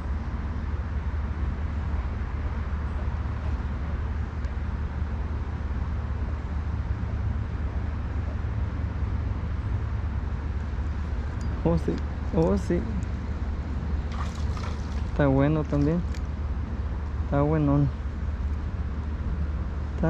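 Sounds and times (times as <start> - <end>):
low rumble with hiss: 0.0 - 20.0.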